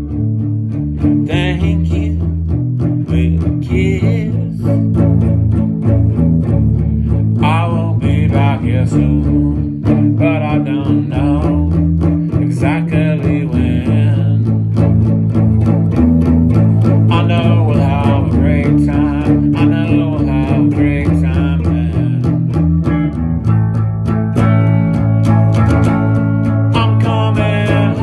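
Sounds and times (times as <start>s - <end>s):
bass and steady beat: 0.0s - 28.0s
electric guitar playing: 0.0s - 28.0s.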